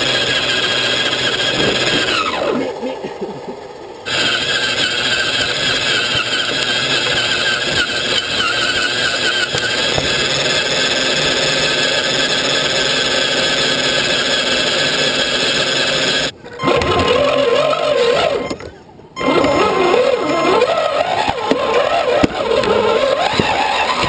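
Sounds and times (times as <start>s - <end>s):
electric motor and gears whining: 0.0s - 24.0s.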